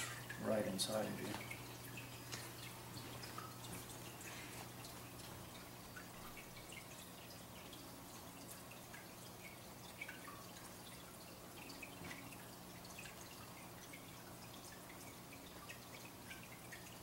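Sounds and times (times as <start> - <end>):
faint drip-like plinks: 0.0 - 17.0
low electrical hum: 0.0 - 17.0.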